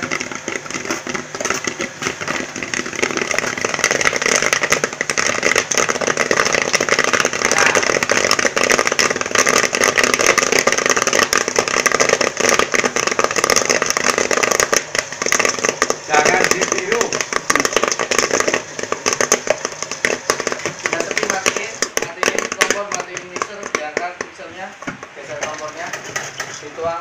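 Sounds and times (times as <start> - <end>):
corn popping in kettle: 0.0 - 27.0
electric stirrer humming: 0.0 - 27.0.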